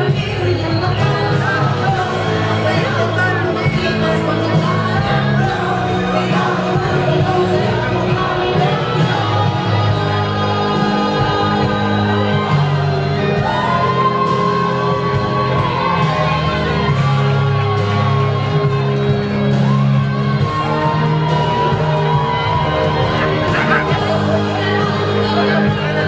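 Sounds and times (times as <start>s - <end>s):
steady music chords: 0.0s - 26.0s.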